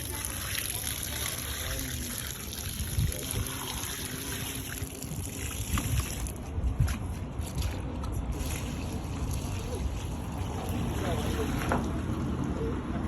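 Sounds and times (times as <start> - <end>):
water running and splashing: 0.0 - 6.4, 7.6 - 11.9.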